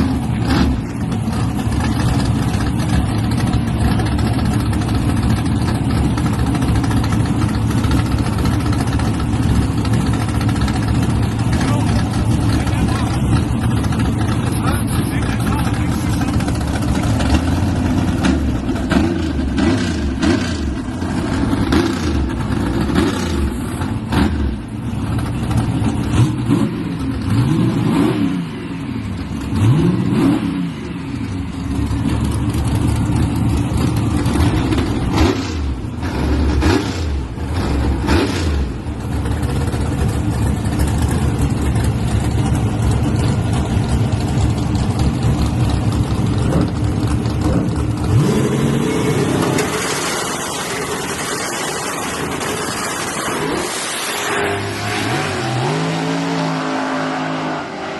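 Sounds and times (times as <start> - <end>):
engines rumbling and revving: 0.0 - 57.9.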